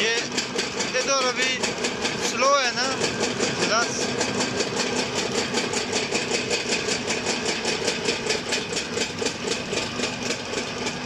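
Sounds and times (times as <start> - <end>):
injection pump ticking: 0.0 - 11.0.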